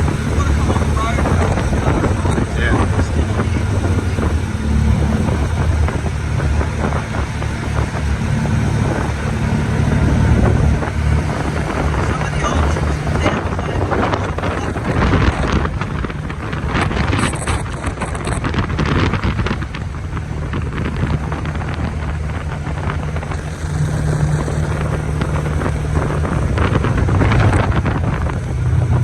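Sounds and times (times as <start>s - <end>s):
vehicle engine running: 0.0s - 29.0s
wind buffeting microphone: 0.0s - 29.0s.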